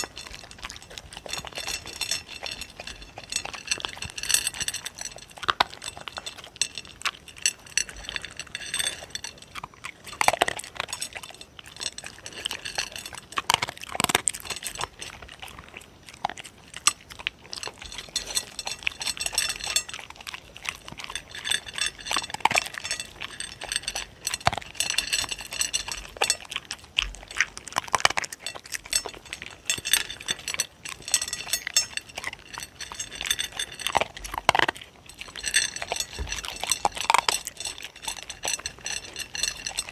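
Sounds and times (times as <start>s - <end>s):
pellets clicking against a plate: 0.0s - 15.4s, 16.2s - 39.9s
dogs crunching dry kibble: 0.0s - 39.9s.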